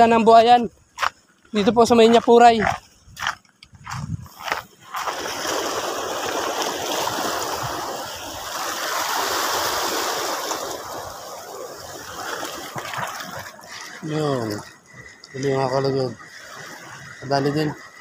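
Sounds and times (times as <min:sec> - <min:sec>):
sea water lapping on rocky shore: 0:02.6 - 0:18.0.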